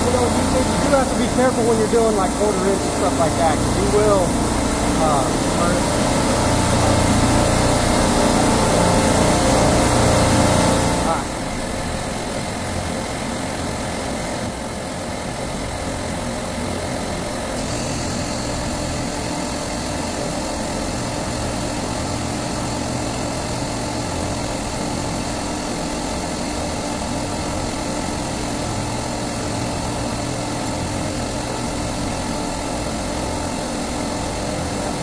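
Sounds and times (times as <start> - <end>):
torch flame hissing: 0.0 - 15.3, 17.2 - 35.0
refrigeration compressors droning: 0.0 - 35.0.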